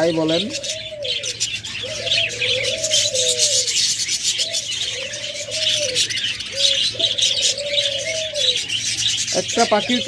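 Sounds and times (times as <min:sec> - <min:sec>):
doves cooing: 0:00.0 - 0:10.0
small birds twittering and chirping: 0:00.0 - 0:10.0.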